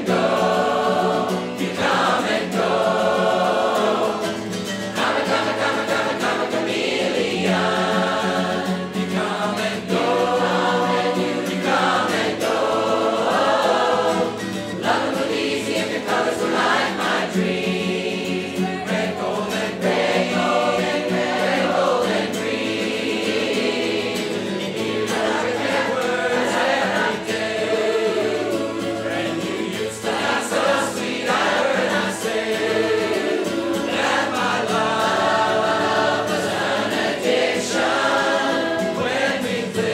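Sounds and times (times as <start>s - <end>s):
crowd singing in parts: 0.0s - 39.9s
strummed acoustic guitar: 0.0s - 39.9s.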